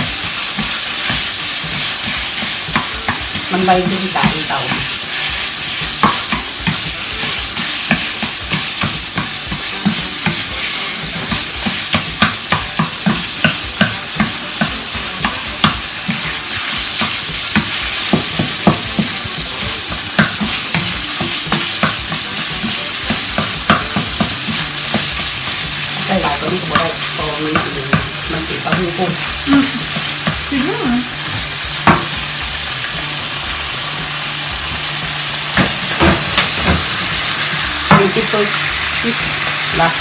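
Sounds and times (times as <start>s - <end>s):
tofu sizzling in a frying pan: 0.0s - 40.0s.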